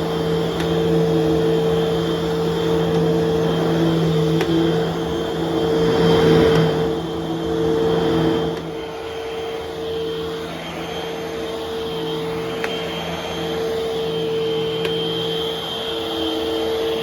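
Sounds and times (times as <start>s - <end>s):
vacuum cleaner motor humming: 0.0s - 17.0s.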